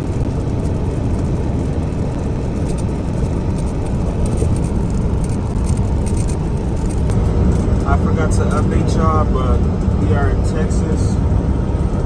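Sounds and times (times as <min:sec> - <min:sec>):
truck road and engine noise: 0:00.0 - 0:12.0.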